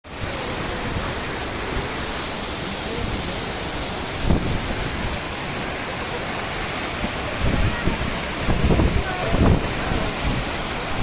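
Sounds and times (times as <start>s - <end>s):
waterfall roaring: 0.1s - 11.0s.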